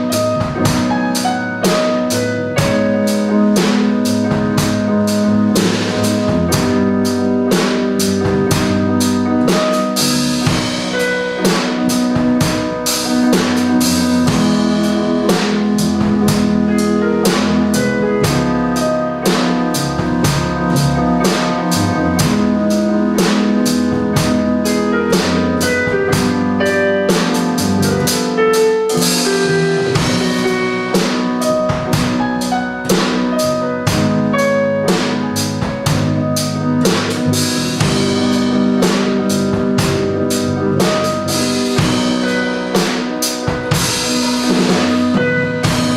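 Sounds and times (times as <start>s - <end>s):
bass line: 0.0s - 45.9s
drum kit steady beat: 0.0s - 45.9s
keyboard chords: 0.0s - 45.9s.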